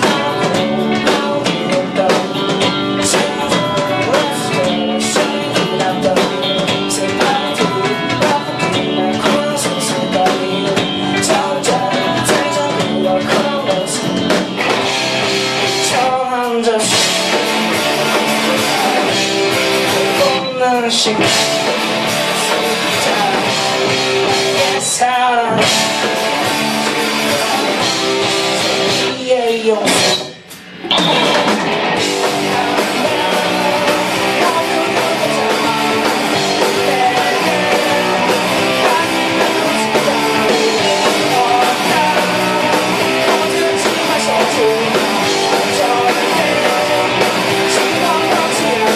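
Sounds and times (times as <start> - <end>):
person singing: 0.0 - 48.9
punk rock band playing live: 0.0 - 48.9.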